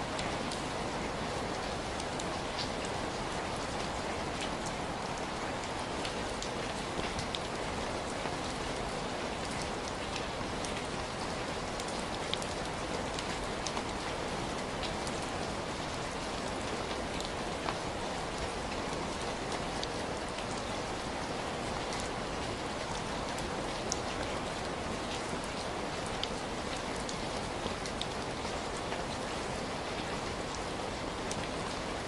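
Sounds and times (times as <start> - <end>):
raindrops hitting a surface: 0.0 - 32.0.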